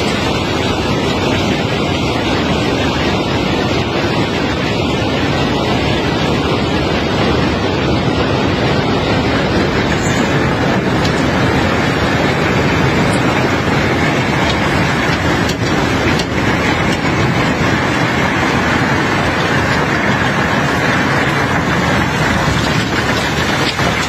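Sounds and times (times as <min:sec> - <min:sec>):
heavy machinery running: 0:00.0 - 0:24.0.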